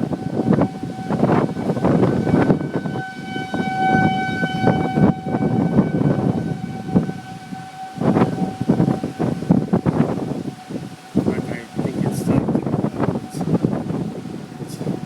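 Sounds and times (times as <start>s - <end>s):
warning siren steady tone: 0.0s - 15.0s
wind buffeting microphone: 0.0s - 15.0s.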